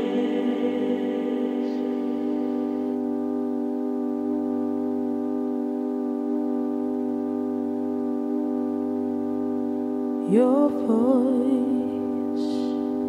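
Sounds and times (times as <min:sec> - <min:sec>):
sustained keyboard chord: 0:00.0 - 0:13.0.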